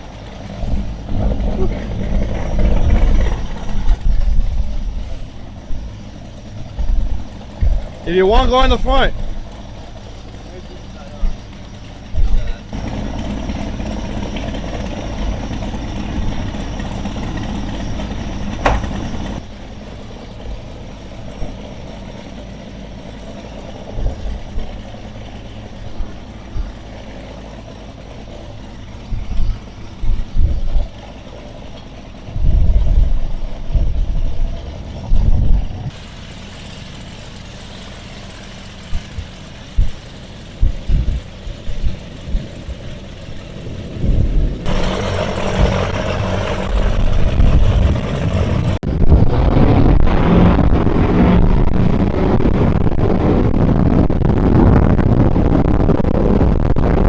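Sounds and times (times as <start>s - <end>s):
engine running: 0.0s - 57.0s
wind buffeting microphone: 0.0s - 57.0s.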